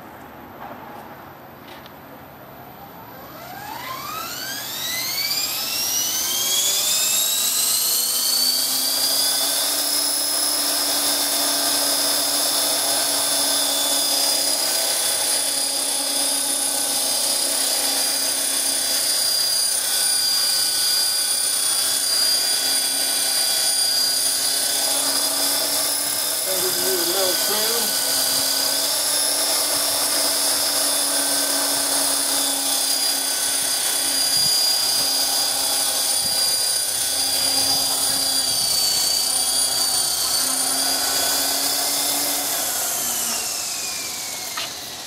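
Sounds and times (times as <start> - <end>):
rc helicopter motor whine: 2.7 - 45.0.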